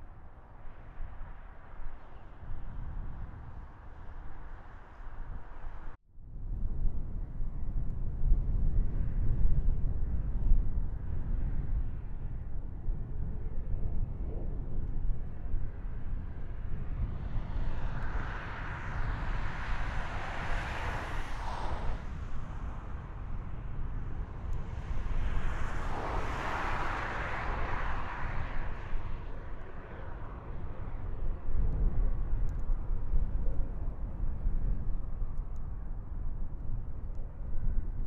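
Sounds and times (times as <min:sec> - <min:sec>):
wind on microphone: 0:00.0 - 0:38.0.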